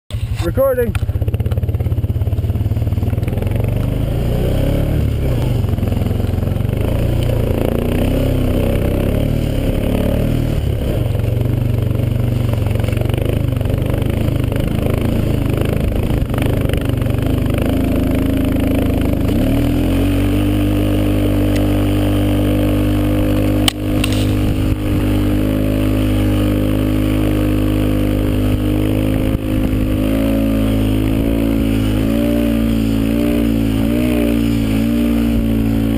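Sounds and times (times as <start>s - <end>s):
engine rumbling: 0.1s - 35.9s.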